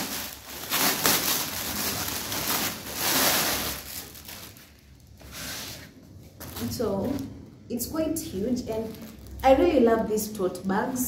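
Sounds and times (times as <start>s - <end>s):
bag rustling and crinkling: 0.0s - 7.4s, 8.3s - 9.8s.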